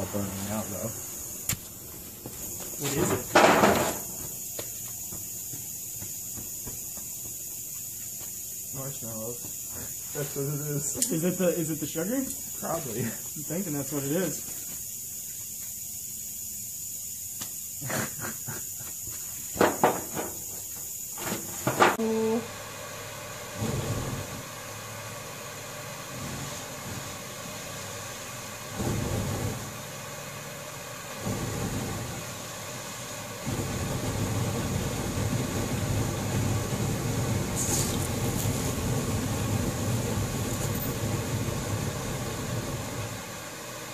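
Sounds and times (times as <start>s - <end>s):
torch flame hissing and rumbling: 0.0s - 43.9s.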